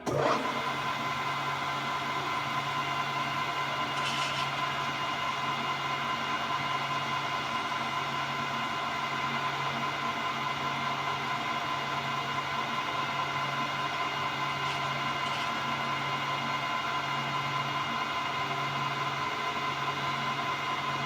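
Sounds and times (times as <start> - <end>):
milling machine running: 0.0 - 21.0.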